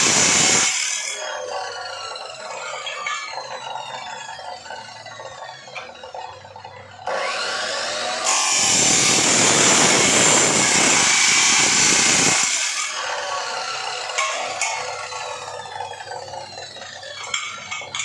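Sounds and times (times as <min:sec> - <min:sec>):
power tool cutting: 0:00.0 - 0:18.0.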